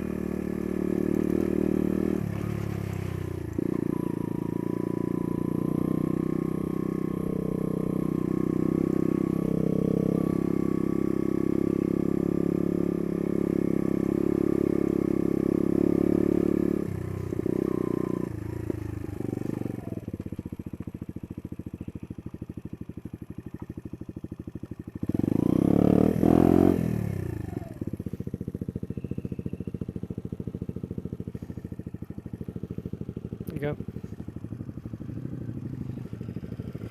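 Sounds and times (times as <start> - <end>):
trail bike engine running: 0.0 - 36.9.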